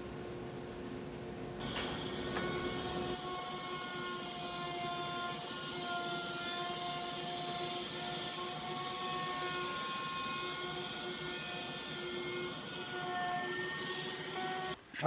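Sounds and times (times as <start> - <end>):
router cutting wood: 1.6 - 14.8.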